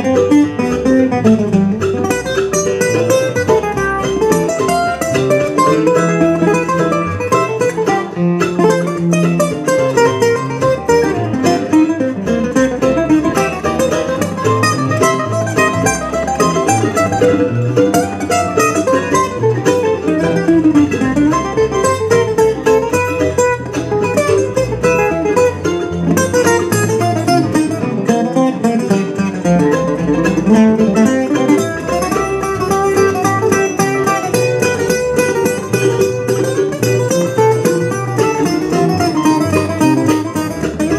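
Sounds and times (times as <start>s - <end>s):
acoustic guitars picking: 0.0s - 40.9s
mandolin: 0.0s - 40.9s
upright bass: 0.0s - 40.9s.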